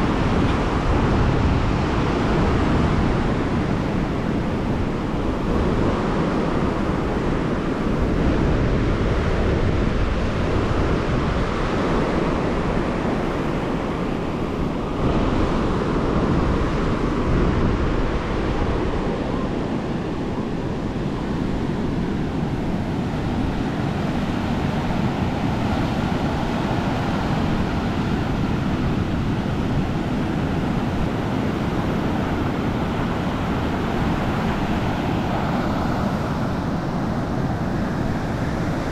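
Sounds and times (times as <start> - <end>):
ocean surf breaking on beach: 0.0 - 38.9
wind noise on microphone: 0.0 - 38.9.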